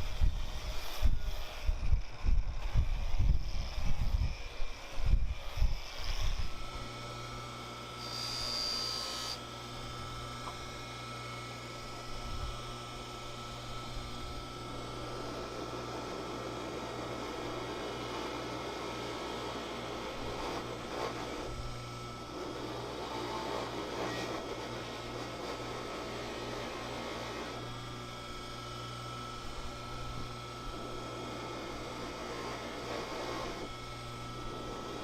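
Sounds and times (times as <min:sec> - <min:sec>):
faint high whine: 0:00.0 - 0:35.0
steady mechanical hum: 0:00.0 - 0:35.0.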